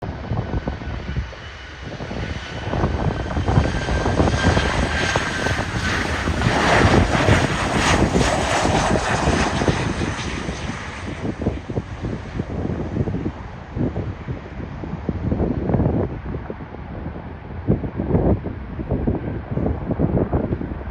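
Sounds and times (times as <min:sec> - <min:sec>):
airplane engine passing: 0:00.1 - 0:20.9.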